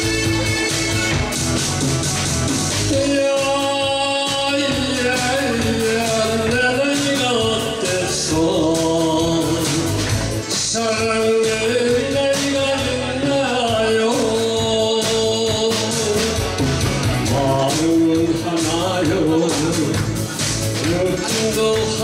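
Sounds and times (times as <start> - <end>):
music with a steady beat: 0.0 - 22.0
man singing into a microphone: 2.9 - 22.0.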